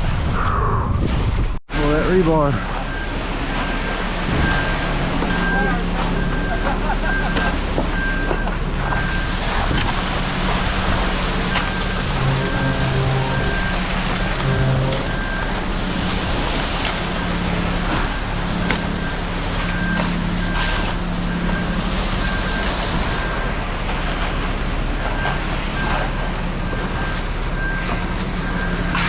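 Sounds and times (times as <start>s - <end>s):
concrete mixer truck droning: 1.7s - 29.0s
backup alarm beeps: 2.5s - 29.0s.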